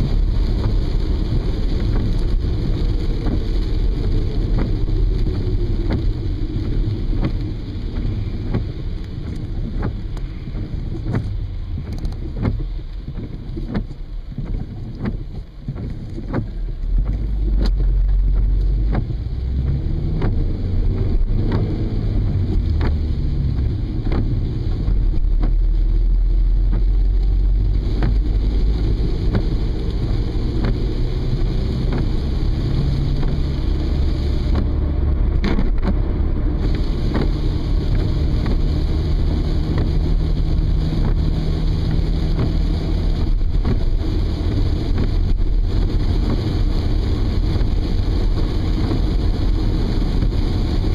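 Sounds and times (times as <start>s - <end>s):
engine and road rumble: 0.0s - 50.9s.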